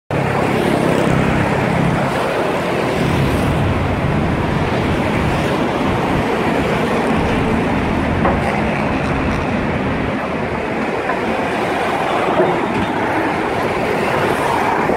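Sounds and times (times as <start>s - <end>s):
road traffic rumble: 0.1s - 14.9s.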